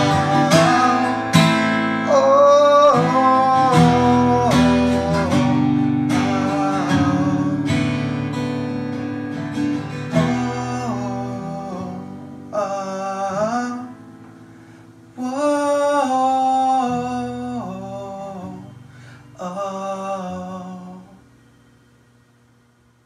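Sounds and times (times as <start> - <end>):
man singing: 0.0 - 8.4, 9.7 - 14.0, 15.2 - 21.2
strummed acoustic guitar: 0.0 - 22.0.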